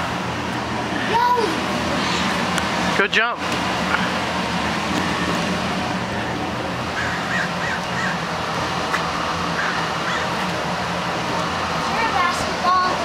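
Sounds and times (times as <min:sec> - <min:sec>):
blower fan rushing air: 0:00.0 - 0:13.0.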